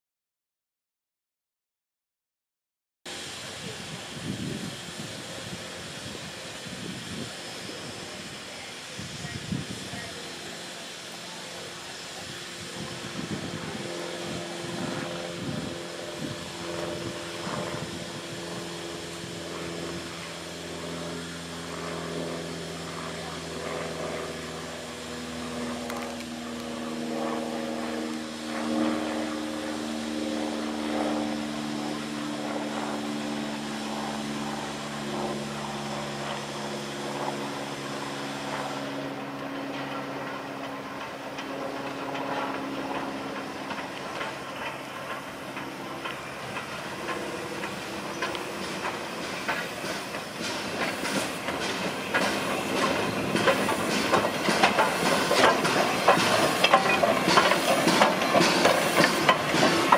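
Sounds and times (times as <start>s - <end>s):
steam locomotive running gear rumble: 3.1s - 59.9s.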